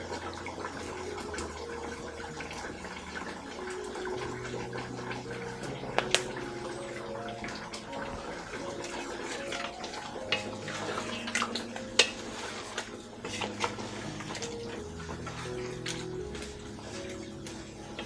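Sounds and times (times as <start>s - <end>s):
gravy bubbling in a pot: 0.0s - 18.0s.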